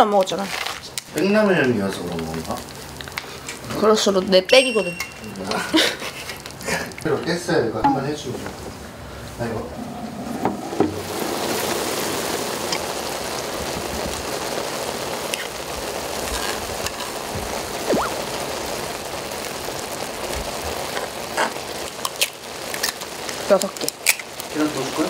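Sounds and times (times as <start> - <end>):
broth boiling with bubbling hiss: 0.0 - 25.0.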